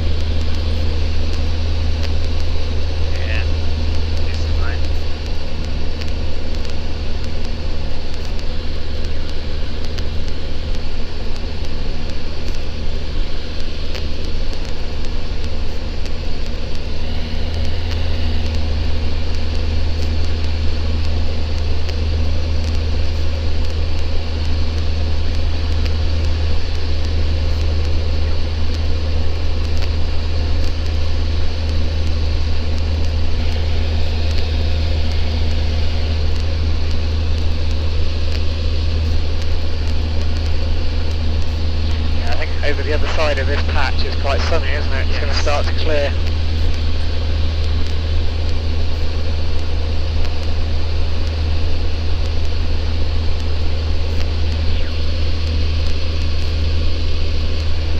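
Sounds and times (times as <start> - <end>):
aircraft engine droning in cabin: 0.0 - 57.9.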